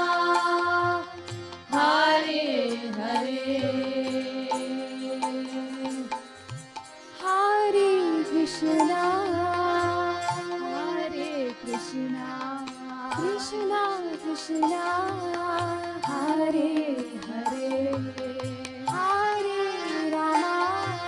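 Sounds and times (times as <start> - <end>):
person singing: 0.0 - 6.3, 7.2 - 21.0
harmonium chords: 0.0 - 21.0.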